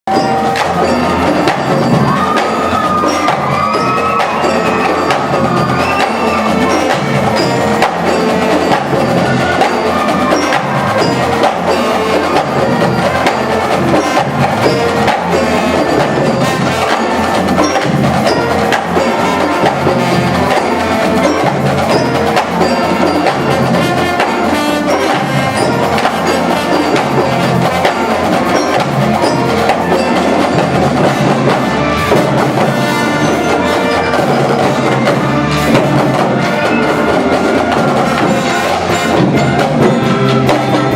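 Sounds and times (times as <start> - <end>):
marching band and drumline playing: 0.0 - 40.9.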